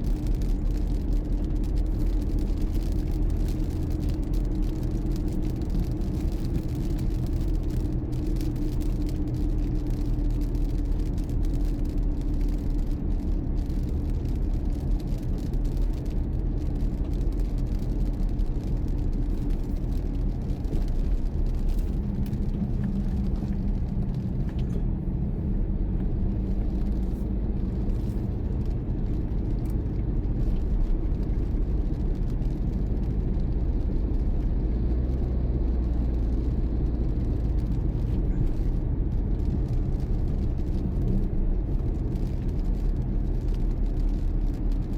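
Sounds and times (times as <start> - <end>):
car engine rumble: 0.0 - 44.9
road noise: 0.0 - 44.9.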